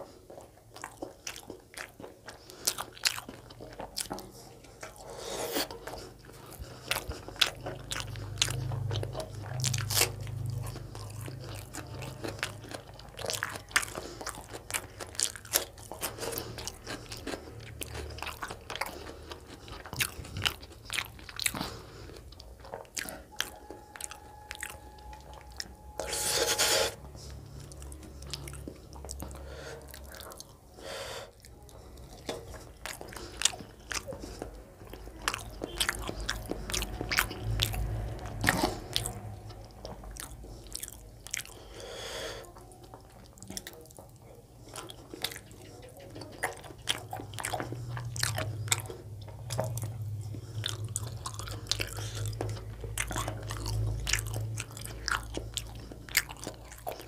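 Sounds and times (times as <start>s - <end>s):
close chewing with mouth clicks: 0.0s - 57.0s.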